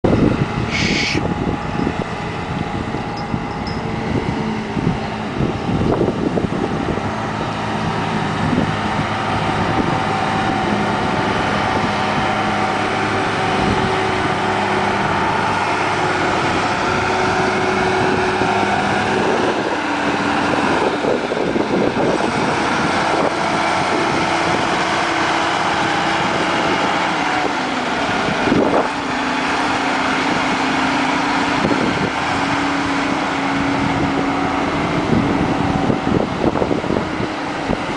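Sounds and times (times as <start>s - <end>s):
forklift engine running under load: 0.0s - 37.9s.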